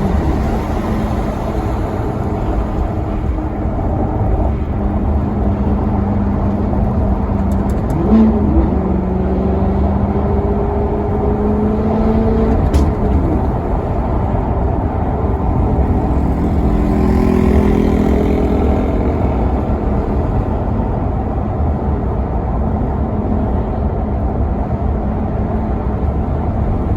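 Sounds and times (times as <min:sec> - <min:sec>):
car engine rumbling while driving: 0:00.0 - 0:26.9.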